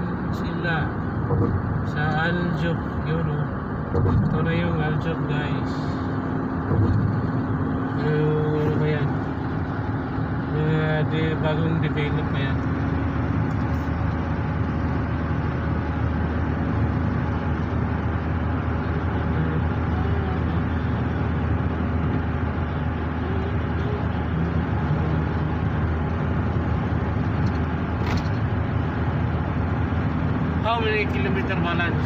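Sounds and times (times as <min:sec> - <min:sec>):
car cabin road noise: 0:00.0 - 0:32.0.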